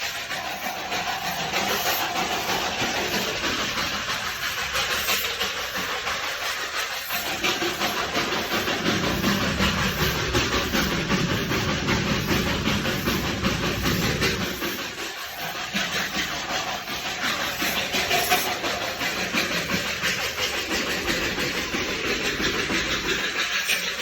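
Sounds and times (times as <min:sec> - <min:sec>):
steam hiss: 0:00.0 - 0:24.0
train rumbling: 0:00.0 - 0:24.0.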